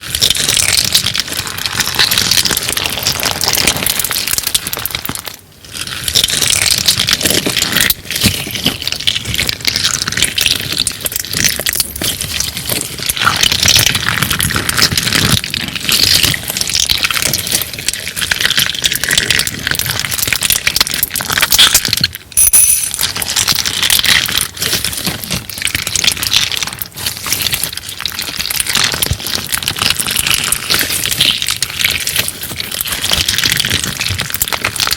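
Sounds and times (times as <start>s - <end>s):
slime crackling and crunching: 0.0s - 34.9s.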